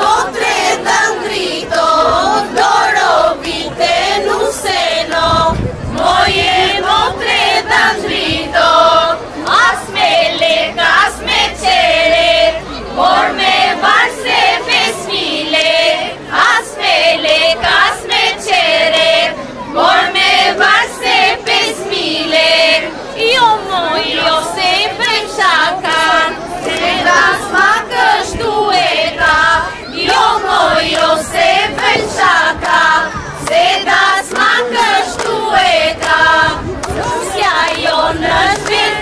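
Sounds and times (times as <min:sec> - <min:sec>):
group of voices singing in chorus: 0:00.0 - 0:39.0.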